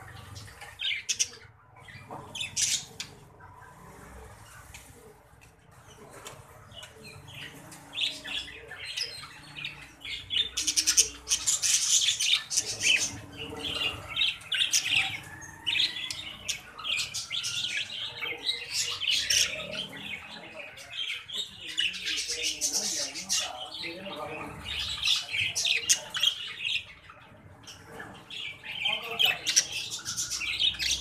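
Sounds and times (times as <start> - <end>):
budgerigars chirping and chattering: 0.0 - 3.3, 6.7 - 31.0.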